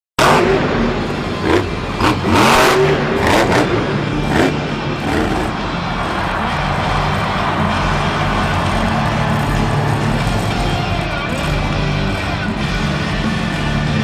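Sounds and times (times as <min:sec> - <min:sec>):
heavy vehicle engine revving: 0:00.2 - 0:14.0.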